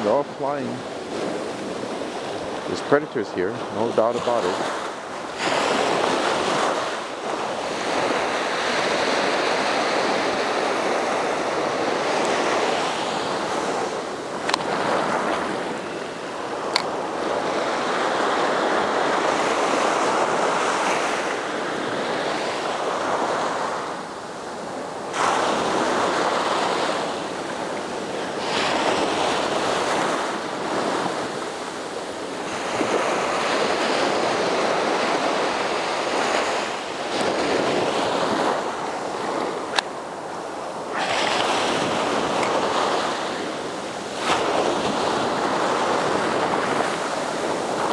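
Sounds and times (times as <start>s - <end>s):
ocean waves breaking on sand: 0.0s - 47.9s.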